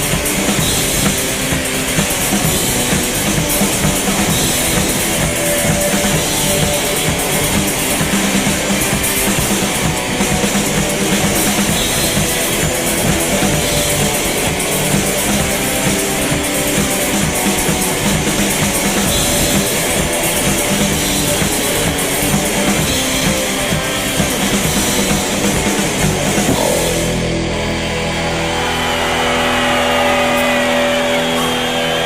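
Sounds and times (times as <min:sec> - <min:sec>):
instrumental rock band: 0:00.0 - 0:32.0.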